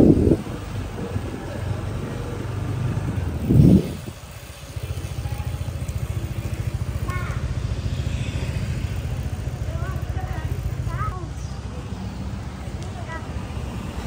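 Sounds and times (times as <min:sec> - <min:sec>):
motorbike engine rumbling: 0:00.0 - 0:14.0.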